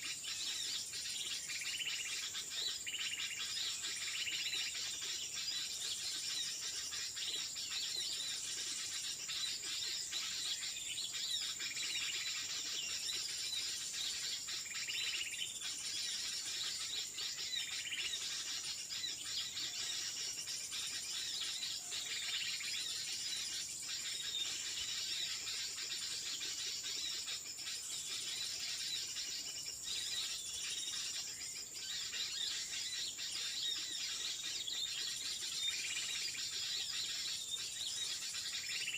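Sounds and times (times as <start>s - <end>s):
insect drone: 0.0s - 38.9s
small birds chirping: 0.0s - 38.9s.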